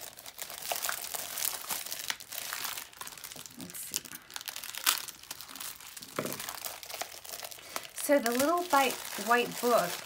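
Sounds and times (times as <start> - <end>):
crinkly packaging rustling: 0.0 - 10.0.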